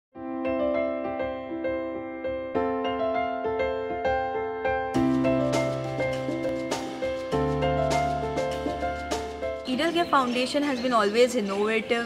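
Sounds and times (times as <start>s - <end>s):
soft keyboard music: 0.2s - 12.0s.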